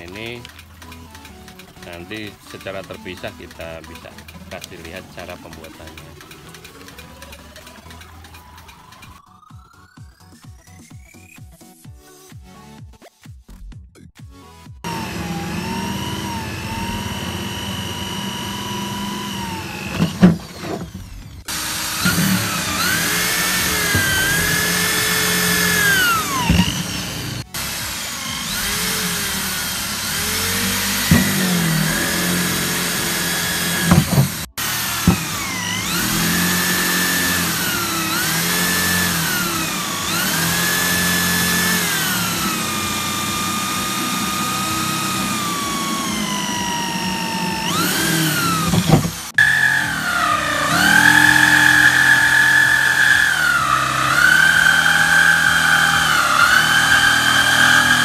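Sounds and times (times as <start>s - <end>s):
electric drill cutting plastic: 0.0s - 11.4s, 14.8s - 58.0s.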